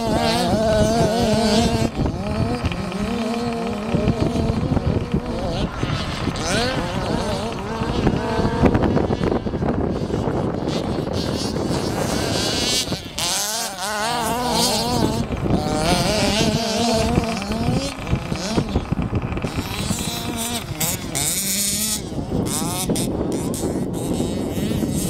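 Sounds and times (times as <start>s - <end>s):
small two-stroke engines revving: 0.0s - 25.0s.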